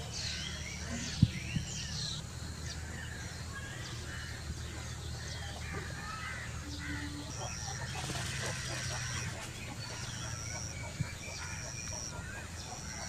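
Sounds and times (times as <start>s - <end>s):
birds chirping and calling: 0.0s - 13.0s
steady low hum: 0.0s - 13.0s.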